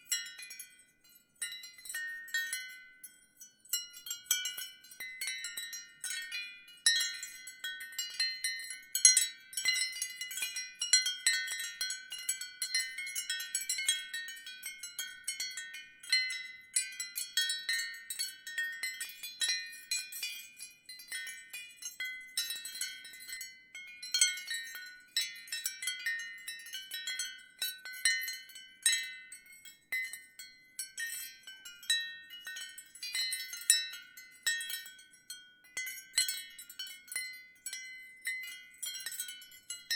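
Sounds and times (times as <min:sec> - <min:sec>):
ceramic wind chimes clinking: 0:00.0 - 0:39.9.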